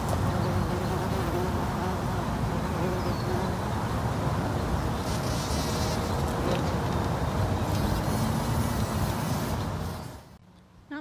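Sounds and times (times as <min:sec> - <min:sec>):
bumblebee buzzing: 0:00.0 - 0:10.4.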